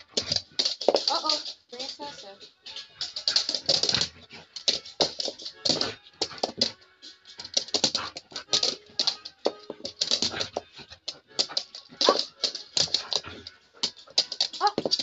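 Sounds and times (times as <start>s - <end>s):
dog claws clicking on wooden floor: 0.0s - 15.0s.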